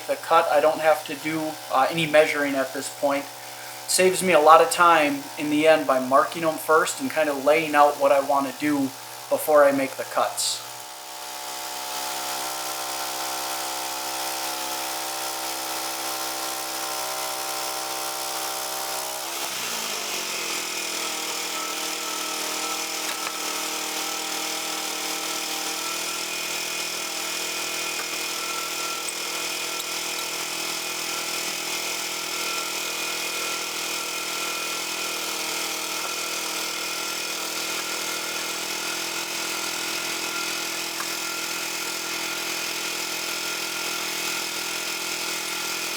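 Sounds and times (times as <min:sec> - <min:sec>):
band blade cutting log: 0:00.0 - 0:45.9
sawmill gas engine running: 0:00.0 - 0:45.9.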